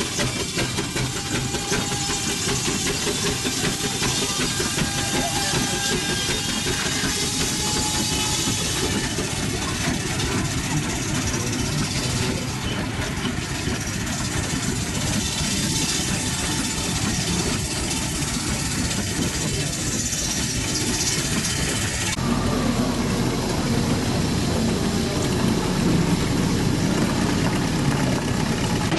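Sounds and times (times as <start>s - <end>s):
sawmill machinery running: 0.0s - 28.9s
forklift engine idling: 3.5s - 28.9s.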